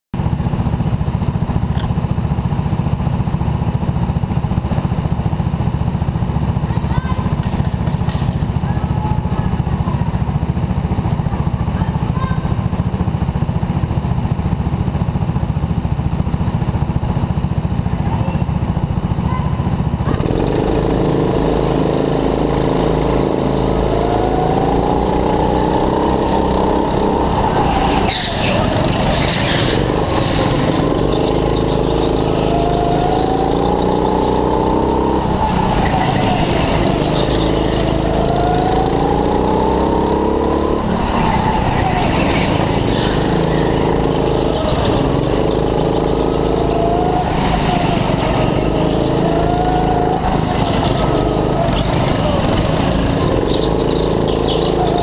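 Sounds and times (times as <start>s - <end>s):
go-kart engine idling and revving: 0.0s - 55.0s
engine crackles: 0.2s - 55.0s.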